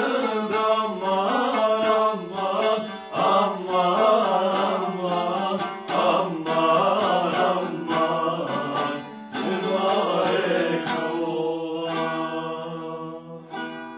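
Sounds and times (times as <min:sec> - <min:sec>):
men singing folk song: 0:00.0 - 0:13.9
strummed lutes: 0:00.0 - 0:13.9.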